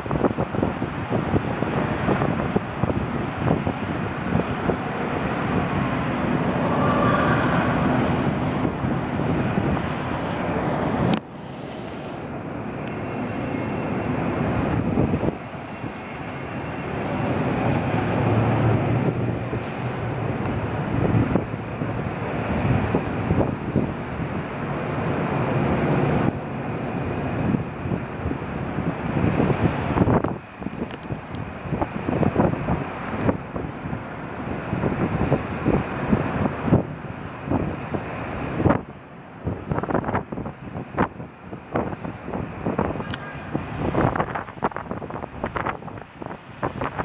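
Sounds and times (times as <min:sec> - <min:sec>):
low city rumble: 0:00.0 - 0:47.0
wind buffeting microphone: 0:00.0 - 0:47.0.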